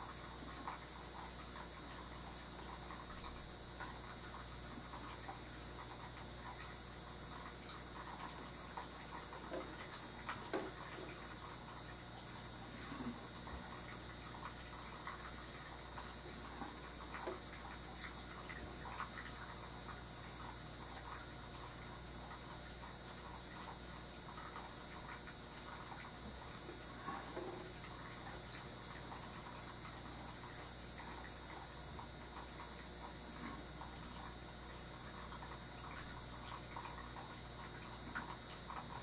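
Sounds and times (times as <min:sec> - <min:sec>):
low electrical hum and hiss: 0:00.0 - 0:39.0.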